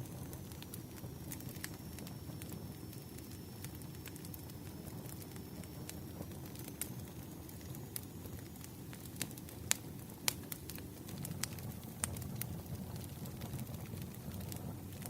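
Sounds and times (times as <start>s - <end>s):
low steady fire rumble: 0.0s - 15.0s
wood fire crackling: 0.0s - 15.0s.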